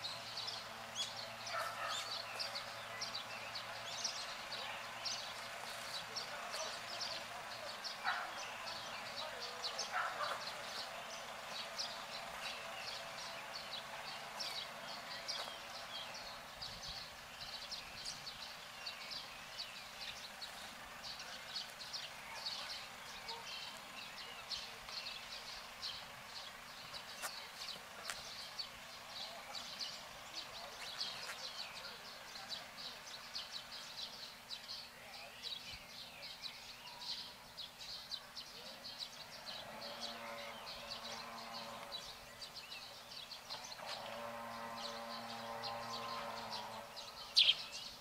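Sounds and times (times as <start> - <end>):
small birds chirping: 0.0 - 48.0
steady outdoor hiss: 0.0 - 48.0.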